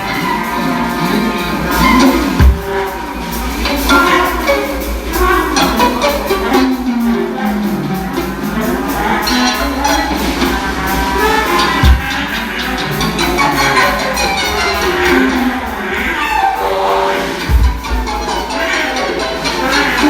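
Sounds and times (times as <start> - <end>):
samba percussion playing: 0.0 - 20.0.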